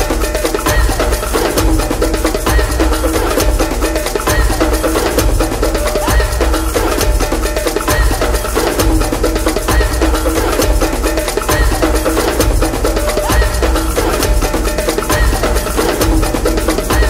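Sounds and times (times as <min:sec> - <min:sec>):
music with percussive beat and bass: 0:00.0 - 0:17.0.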